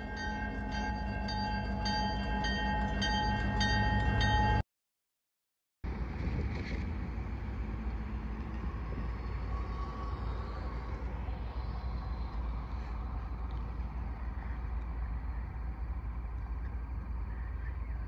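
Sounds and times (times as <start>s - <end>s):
outdoor background rumble: 0.0s - 4.6s, 5.8s - 18.0s.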